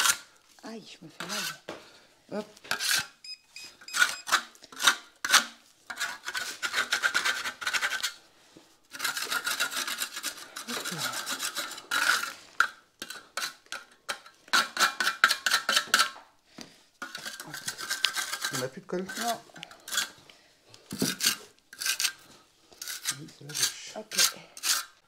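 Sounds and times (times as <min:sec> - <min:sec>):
metal trowel scraping adhesive: 0:00.0 - 0:00.3, 0:01.2 - 0:01.6, 0:02.6 - 0:08.2, 0:08.9 - 0:16.2, 0:17.0 - 0:20.2, 0:20.9 - 0:25.0.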